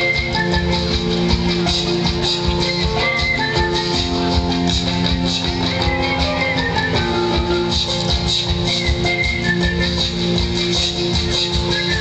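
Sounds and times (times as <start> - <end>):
live band playing: 0.0 - 12.0.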